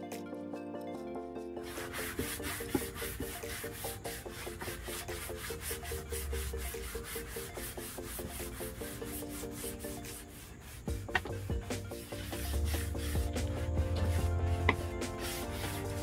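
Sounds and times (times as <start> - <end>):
music: 0.0 - 16.0
sandpaper rasping on wood: 1.6 - 16.0.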